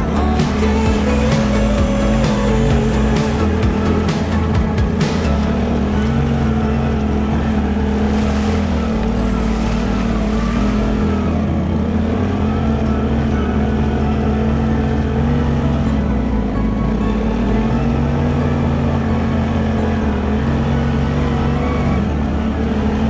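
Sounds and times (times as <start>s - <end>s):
quad bike engine running: 0.0s - 23.0s.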